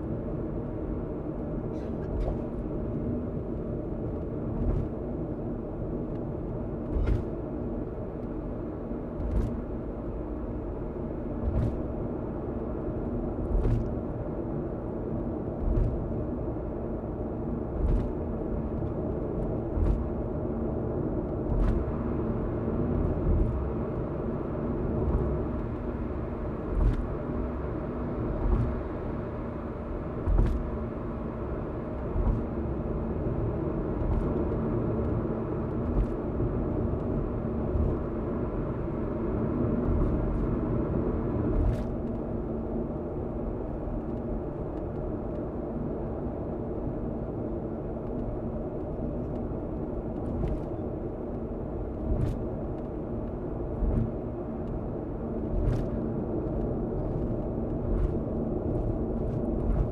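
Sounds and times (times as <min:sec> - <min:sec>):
road and engine rumble: 0:00.0 - 0:59.9.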